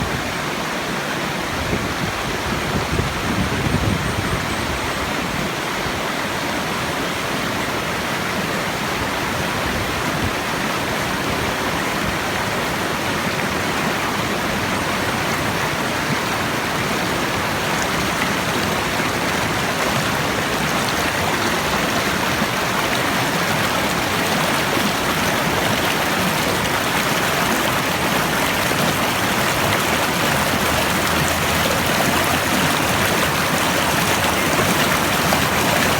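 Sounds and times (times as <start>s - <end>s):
stream water rushing: 0.0s - 35.9s.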